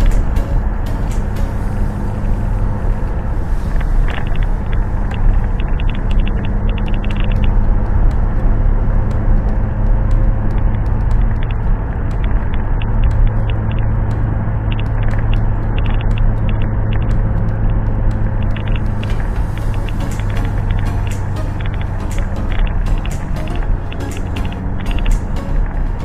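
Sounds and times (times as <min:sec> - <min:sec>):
road rumble: 0:00.0 - 0:26.0
vehicle engine hum: 0:00.0 - 0:26.0.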